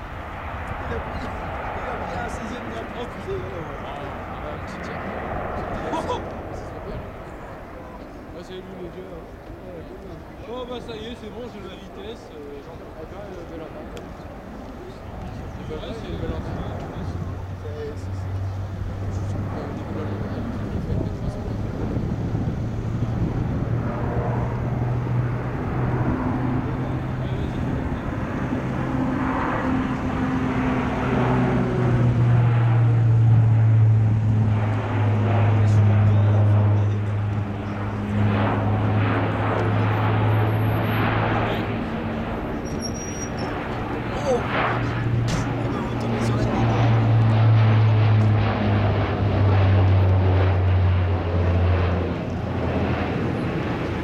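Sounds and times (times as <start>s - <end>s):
low propeller hum of aircraft: 0.0s - 54.0s.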